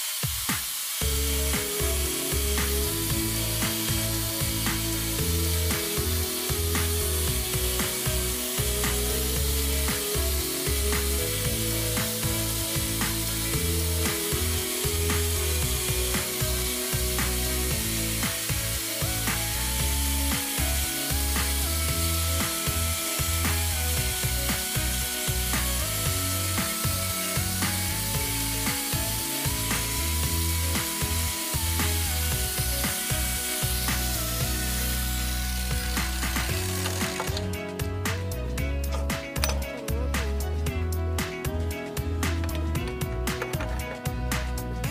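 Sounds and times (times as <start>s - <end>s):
instrumental music with pulsing bass: 1.0s - 44.9s.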